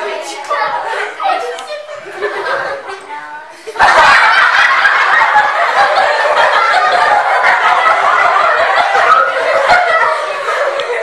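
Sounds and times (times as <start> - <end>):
children laughing: 0.0 - 11.0.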